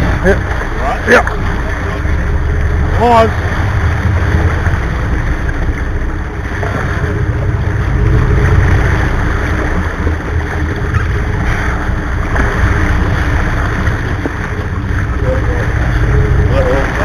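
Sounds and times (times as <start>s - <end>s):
low boat rumble: 0.0s - 17.0s
water churning and splashing: 0.0s - 17.0s.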